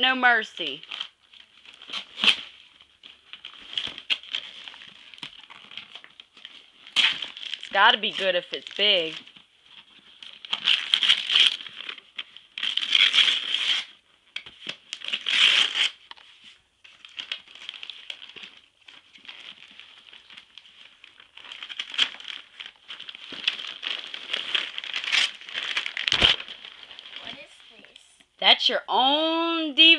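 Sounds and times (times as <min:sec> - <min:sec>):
wrapping paper tearing: 0:00.0 - 0:28.0.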